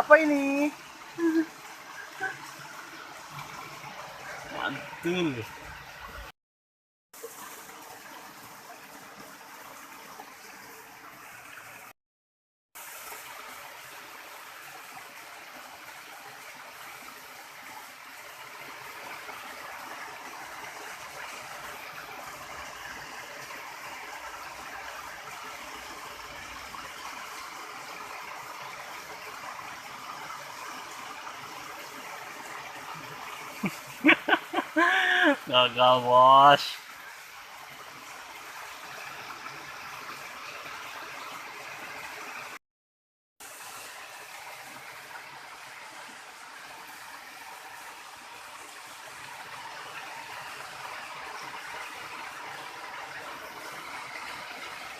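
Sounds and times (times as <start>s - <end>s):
river water gurgling: 0.0s - 6.3s, 7.2s - 11.9s, 12.8s - 42.6s, 43.4s - 54.9s.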